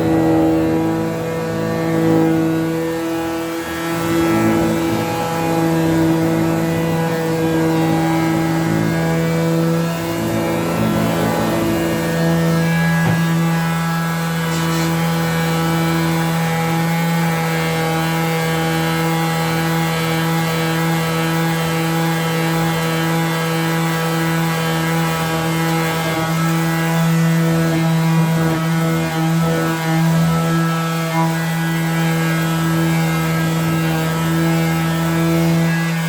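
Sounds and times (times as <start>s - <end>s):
electric power sander running: 0.0s - 36.0s.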